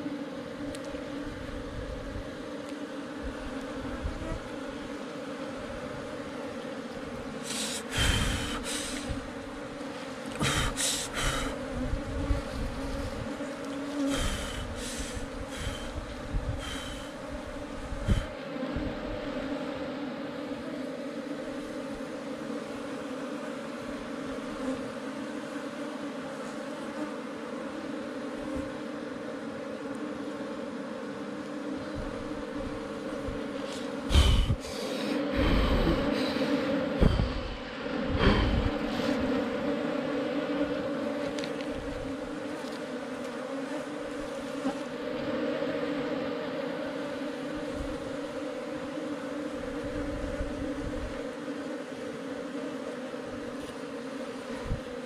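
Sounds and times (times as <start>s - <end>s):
bees buzzing: 0.0s - 55.0s
scraping and rustling in soil: 0.0s - 55.0s.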